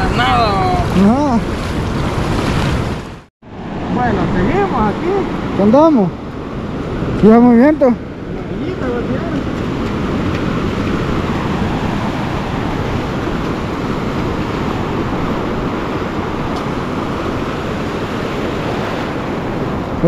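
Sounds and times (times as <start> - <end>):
ocean waves breaking on shore: 0.0 - 20.0
wind on microphone: 0.0 - 20.0.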